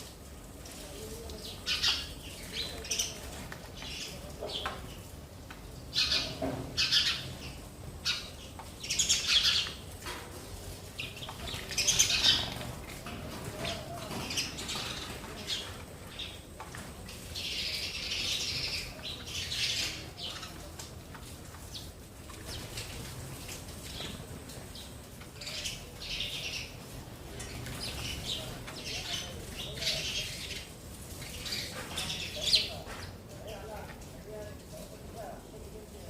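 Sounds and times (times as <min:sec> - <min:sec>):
sparrows chirping: 0:00.0 - 0:36.0.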